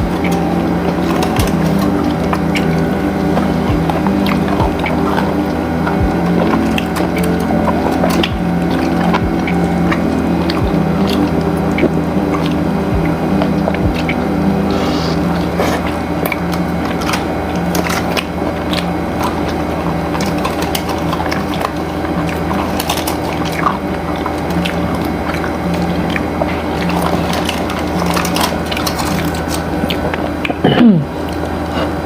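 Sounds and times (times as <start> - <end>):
crunching and chewing fried chicken: 0.0 - 32.0
steady background hum: 0.0 - 32.0.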